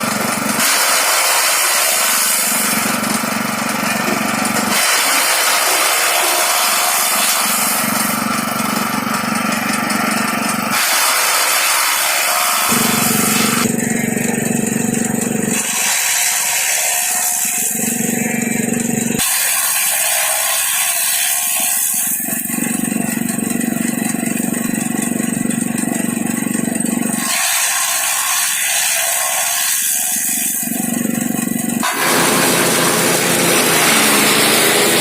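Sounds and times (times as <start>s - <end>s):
chaff cutter machine running: 0.0s - 35.0s.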